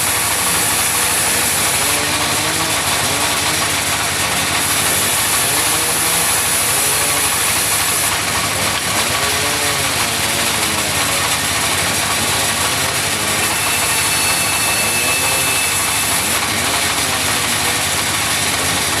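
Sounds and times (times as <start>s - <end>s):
sawmill saw and engine running: 0.0s - 19.0s.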